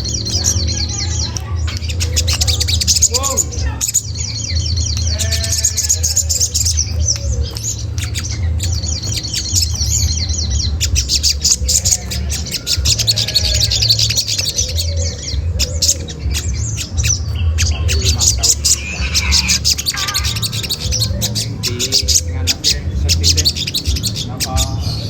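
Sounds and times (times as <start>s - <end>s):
bird chirping rapidly: 0.0s - 25.0s
steady low hum: 0.0s - 25.0s.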